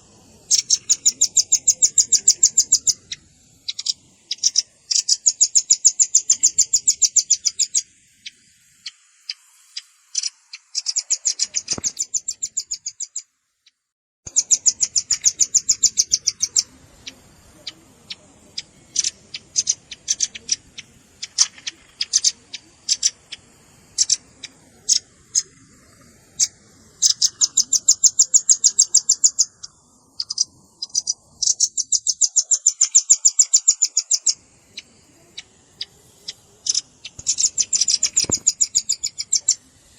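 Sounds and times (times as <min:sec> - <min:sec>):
bird chipping and trilling: 0:00.0 - 0:39.9.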